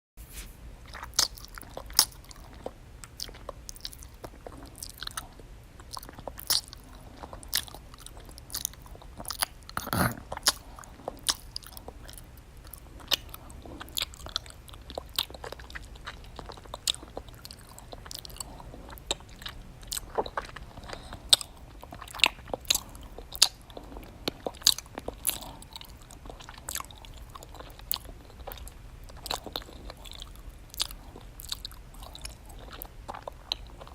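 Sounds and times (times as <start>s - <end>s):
open-mouthed eating: 0.8s - 33.9s.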